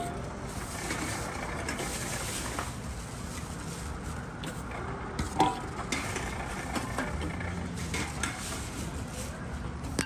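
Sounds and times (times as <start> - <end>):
low machine rumble: 0.0 - 10.0
can rattling on conveyor: 0.5 - 8.9.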